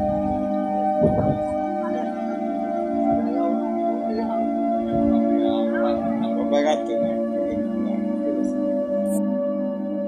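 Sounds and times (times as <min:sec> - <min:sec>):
ambient droning music: 0:00.0 - 0:10.0.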